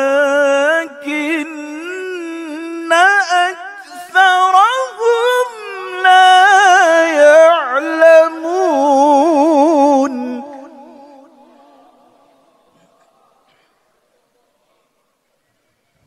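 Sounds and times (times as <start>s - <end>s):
man reciting melodically: 0.0s - 13.5s.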